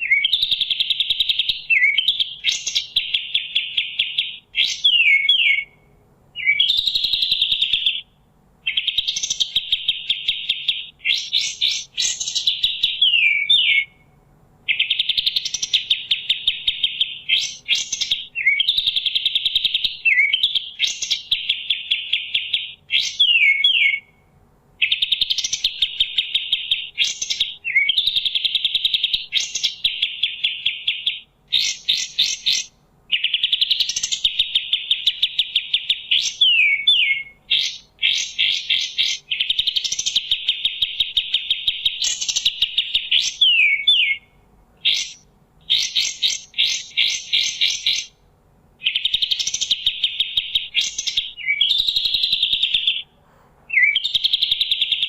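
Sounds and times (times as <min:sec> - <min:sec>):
songbird chattering song: 0:00.0 - 0:53.1, 0:53.7 - 0:55.0.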